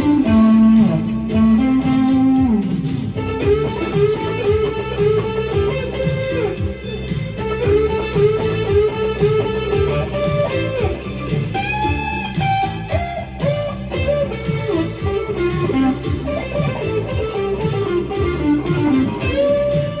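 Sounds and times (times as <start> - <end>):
overdriven electric guitar lead: 0.0 - 20.0
rhythmic low pulse: 0.0 - 20.0.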